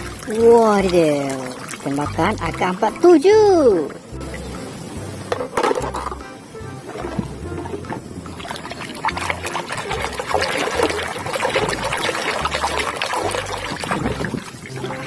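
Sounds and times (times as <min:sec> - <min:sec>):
water pouring and splashing: 0:00.0 - 0:15.0.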